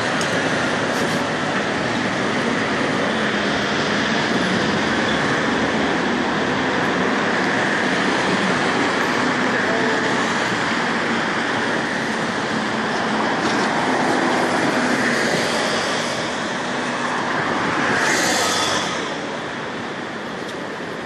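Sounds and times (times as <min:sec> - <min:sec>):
city road traffic roar: 0:00.0 - 0:21.0.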